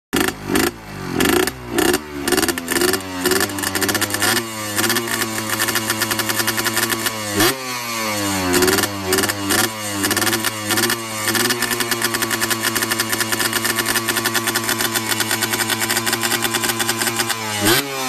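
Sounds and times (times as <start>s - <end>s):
two-stroke motorcycle engine revving: 0.1s - 18.0s.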